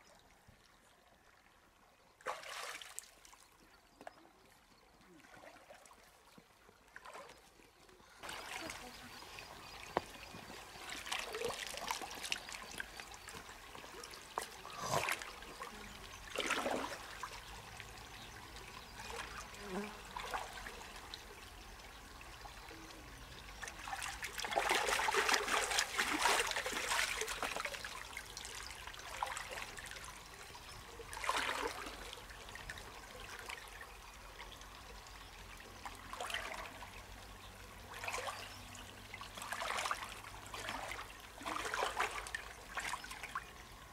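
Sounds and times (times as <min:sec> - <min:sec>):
river water splashing: 0:02.2 - 0:03.5, 0:05.2 - 0:07.6, 0:08.2 - 0:21.4, 0:23.5 - 0:33.9, 0:35.7 - 0:43.9.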